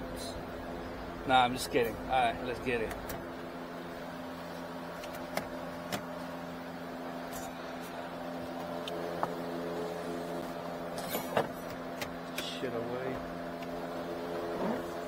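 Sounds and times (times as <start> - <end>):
blower motor humming: 0.0 - 15.0.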